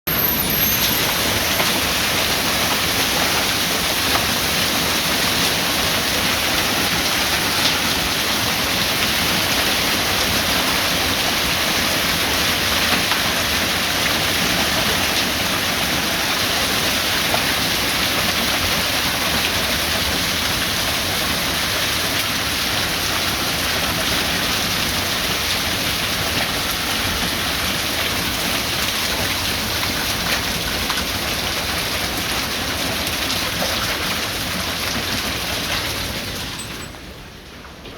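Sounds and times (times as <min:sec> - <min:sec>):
hailstones and rain pelting: 0:00.2 - 0:37.9.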